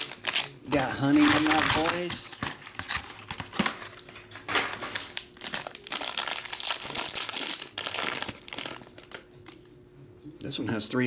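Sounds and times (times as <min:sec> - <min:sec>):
wrapper crinkling: 0:00.0 - 0:09.7.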